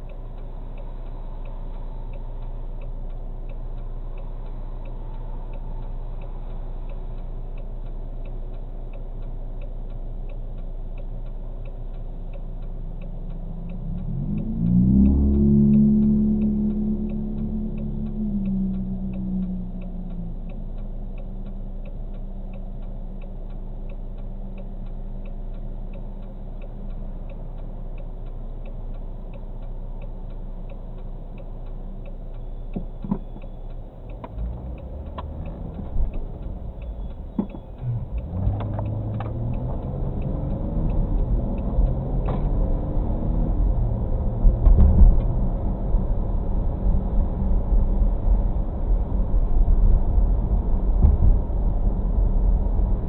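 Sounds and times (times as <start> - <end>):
car engine: 0.0 - 53.0
turn signal ticking: 0.0 - 53.0.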